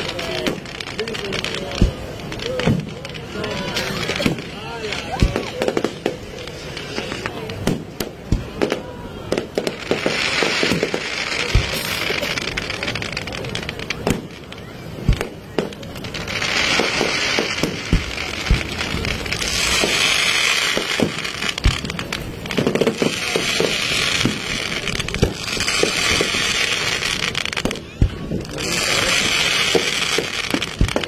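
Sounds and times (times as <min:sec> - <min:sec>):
fireworks banging: 0:00.0 - 0:31.0
fireworks hissing crackle: 0:00.0 - 0:31.0.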